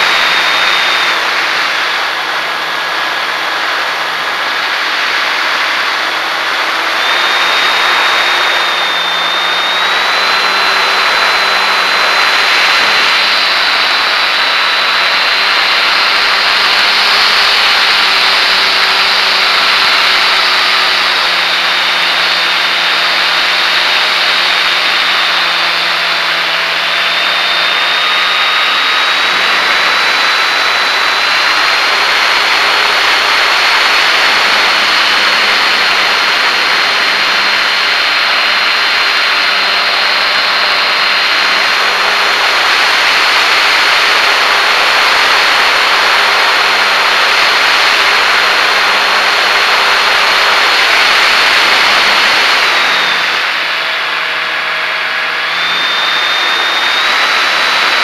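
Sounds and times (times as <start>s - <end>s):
model plane motor whine: 0.0s - 58.0s.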